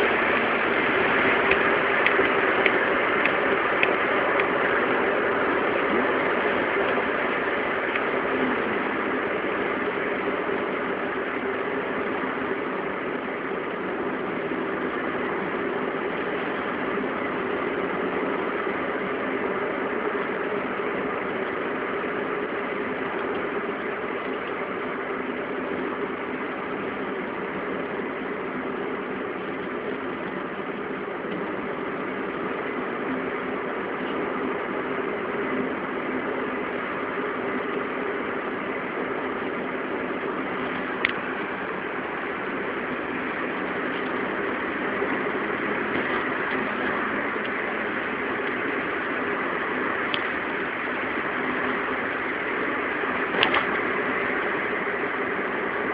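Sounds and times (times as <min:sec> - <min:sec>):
faint wheel hub hum: 0:00.0 - 0:55.9
vehicle running noise: 0:00.0 - 0:55.9.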